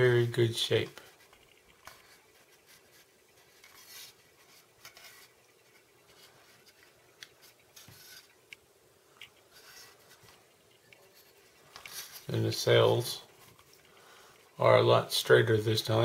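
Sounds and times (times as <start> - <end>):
hands rubbing a model: 0.8 - 8.6, 9.2 - 14.5.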